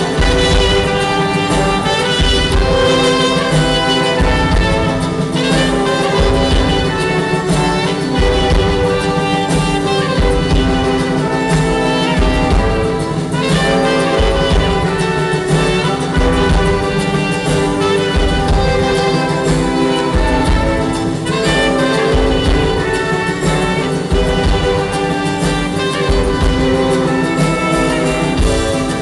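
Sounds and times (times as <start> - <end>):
brass folk band playing: 0.0 - 29.0
large brass horn: 0.0 - 29.0
steady low beat: 0.0 - 29.0
trumpet: 0.0 - 29.0.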